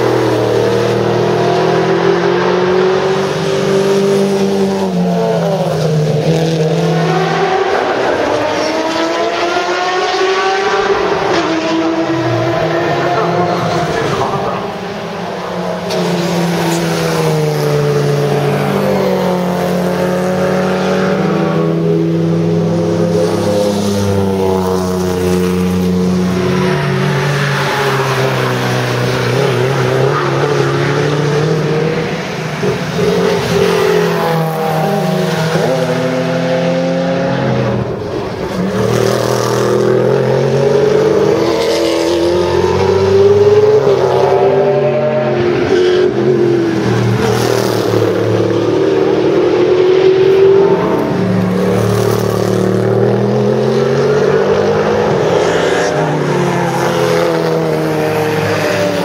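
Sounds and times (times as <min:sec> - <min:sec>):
racing car engines: 0:00.0 - 0:59.0
racing cars passing by: 0:00.0 - 0:59.0.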